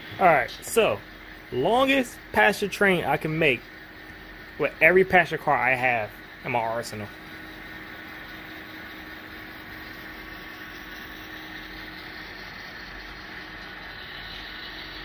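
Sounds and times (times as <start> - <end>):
model train mechanical hum: 0.0 - 15.0.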